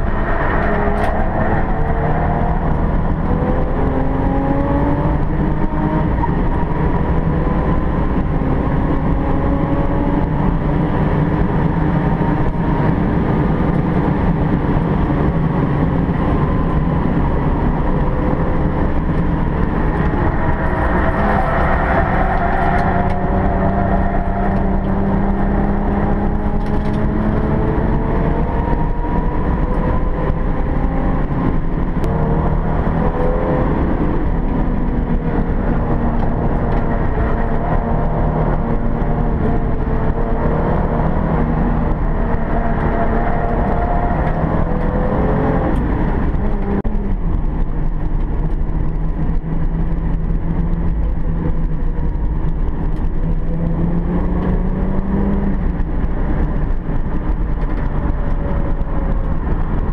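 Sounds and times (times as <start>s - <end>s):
low rumble: 0.0s - 59.9s
race car engine revving: 0.0s - 59.9s.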